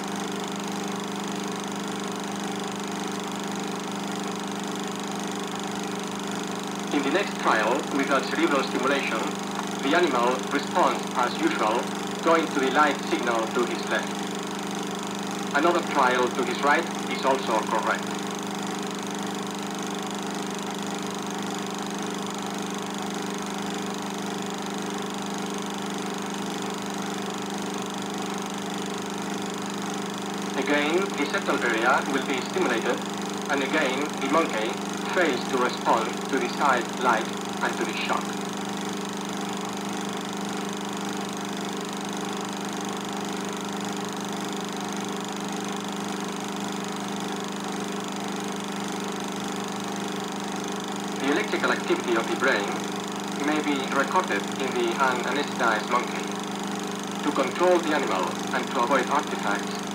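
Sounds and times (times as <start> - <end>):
film projector humming: 0.0 - 59.9.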